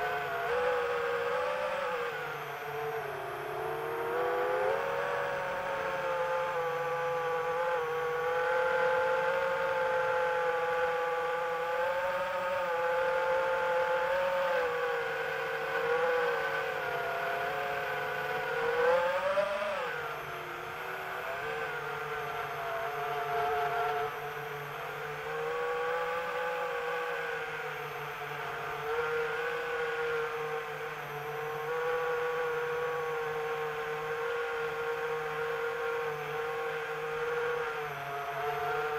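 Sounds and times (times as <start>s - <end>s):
drone propellers whining: 0.0s - 34.8s.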